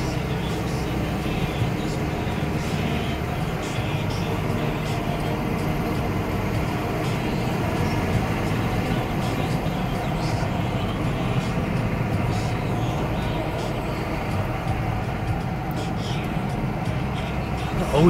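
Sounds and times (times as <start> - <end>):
road and engine noise in car: 0.0 - 18.0.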